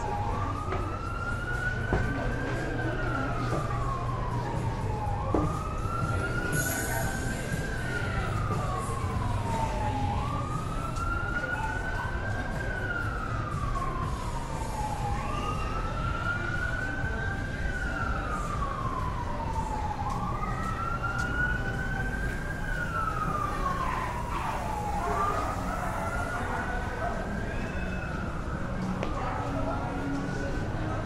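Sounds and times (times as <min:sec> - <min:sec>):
emergency siren wailing: 0:00.0 - 0:31.0
hum of street traffic: 0:00.0 - 0:31.0.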